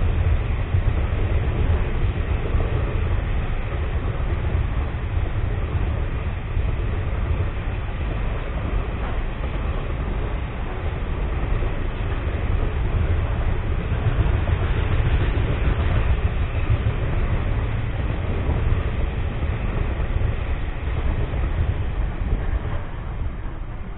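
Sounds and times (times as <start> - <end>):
freight train rumbling past: 0.0 - 23.9.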